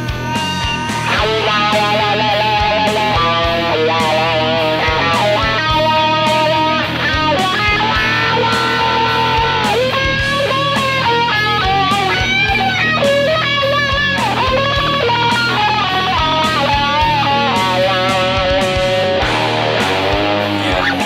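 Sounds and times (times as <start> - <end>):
electric guitar solo: 0.0 - 21.0.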